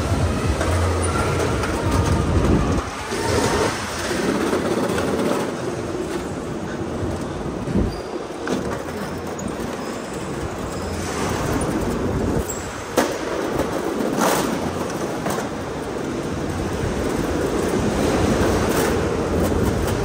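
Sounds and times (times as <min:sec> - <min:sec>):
go-kart running on concrete: 0:00.0 - 0:20.0.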